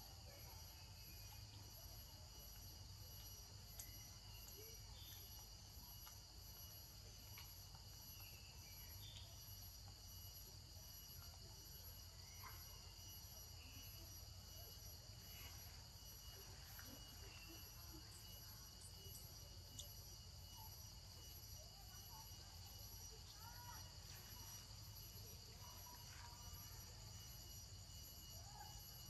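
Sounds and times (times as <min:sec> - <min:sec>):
insects droning: 0:00.0 - 0:29.0.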